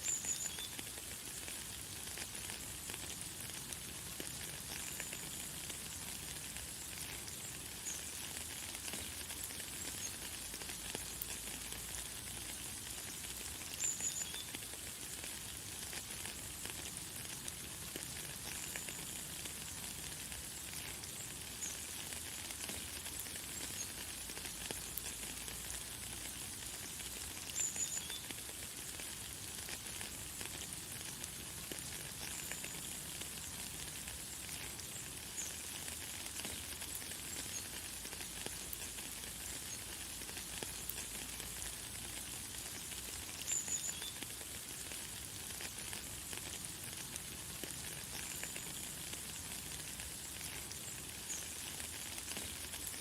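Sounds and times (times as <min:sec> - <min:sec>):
light rain hissing: 0:00.0 - 0:53.0.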